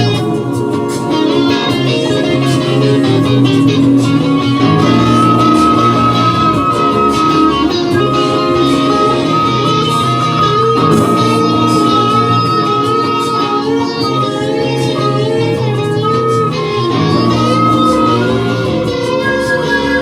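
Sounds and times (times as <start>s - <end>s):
long held high note: 0.0s - 20.0s
sustained low bass notes: 0.0s - 20.0s
wavering melodic lines: 0.0s - 20.0s.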